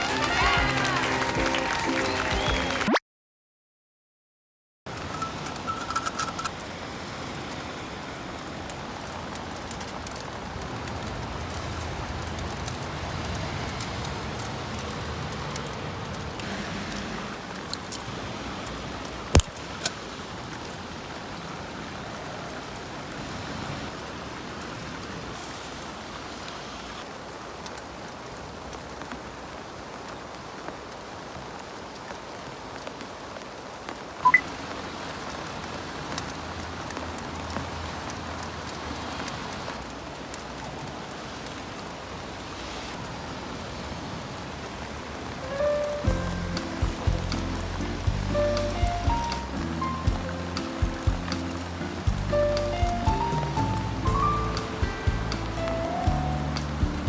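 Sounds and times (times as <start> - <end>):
heavy rain: 0.0 - 3.0, 4.9 - 57.0.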